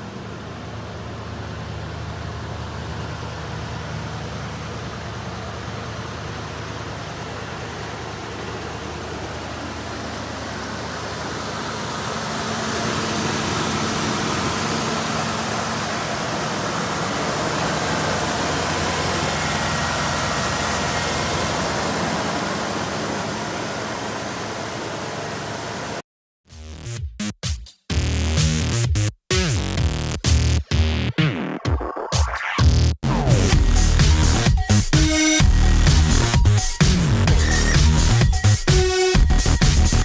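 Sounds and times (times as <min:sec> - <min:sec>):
car engine running: 0:00.0 - 0:26.0, 0:32.8 - 0:40.0.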